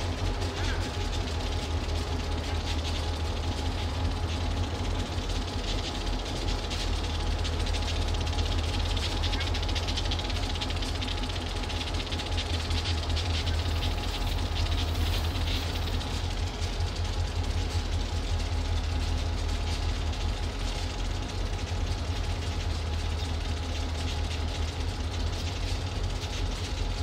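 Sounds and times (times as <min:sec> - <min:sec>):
diesel locomotives idling: 0:00.0 - 0:27.0.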